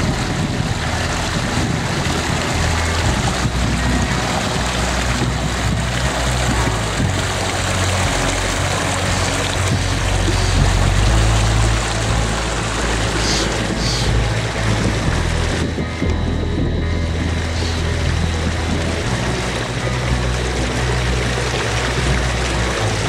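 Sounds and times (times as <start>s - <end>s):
creek flowing over rocks: 0.0s - 23.0s
deep rumble: 0.0s - 23.0s.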